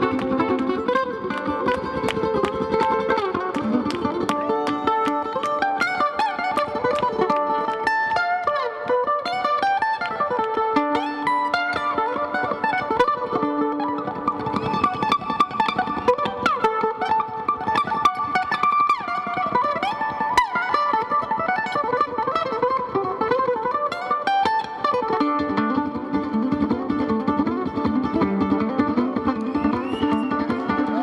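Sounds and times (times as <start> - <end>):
fast mandolin solo: 0.0 - 31.0.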